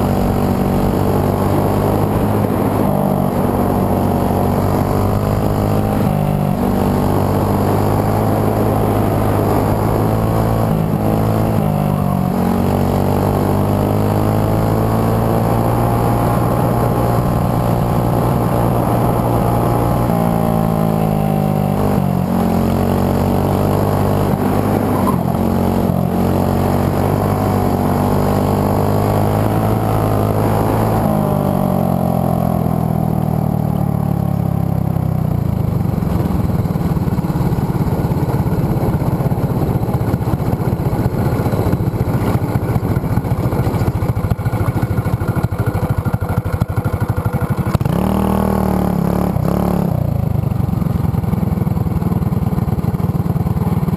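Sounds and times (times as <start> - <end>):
kart engine running hard: 0.0 - 53.9.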